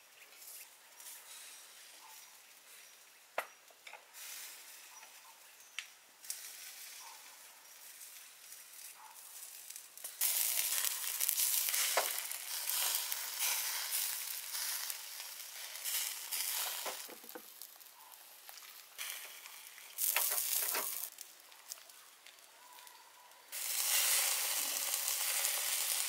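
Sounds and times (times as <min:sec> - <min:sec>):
meat sizzling on a grill: 0:00.4 - 0:01.9, 0:04.1 - 0:04.8, 0:06.2 - 0:22.9, 0:23.5 - 0:26.0.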